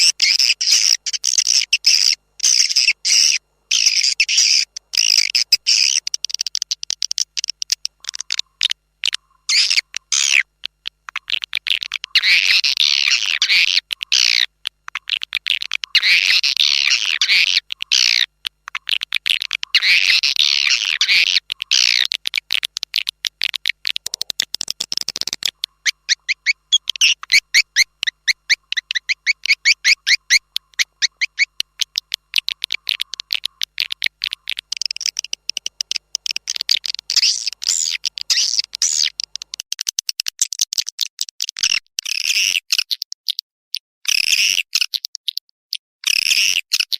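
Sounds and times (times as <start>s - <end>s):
high chirping clicks of swiftlets: 0.0s - 43.4s.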